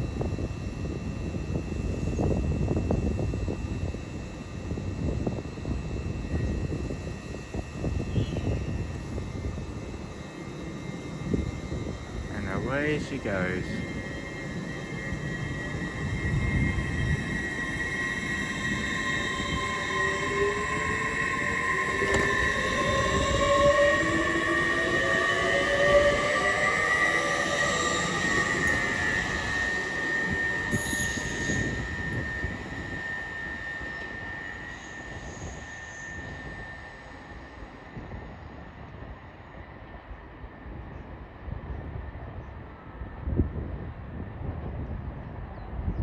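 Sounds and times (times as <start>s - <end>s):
train drive whine: 0.0s - 46.0s
wheels rumbling on rail: 0.0s - 46.0s.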